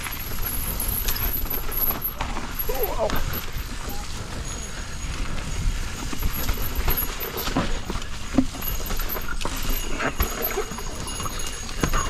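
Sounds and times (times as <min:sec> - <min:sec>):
bike rattling and knocking: 0:00.0 - 0:12.0
bike tyres rolling on dirt: 0:00.0 - 0:12.0.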